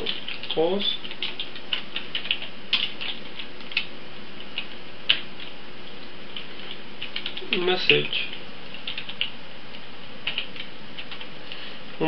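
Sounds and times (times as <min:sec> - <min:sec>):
computer keyboard typing: 0:00.0 - 0:11.3.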